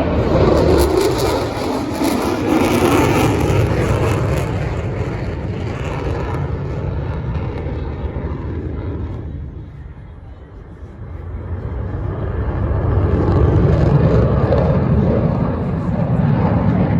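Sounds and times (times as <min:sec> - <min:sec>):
jet flying past: 0:00.0 - 0:16.9.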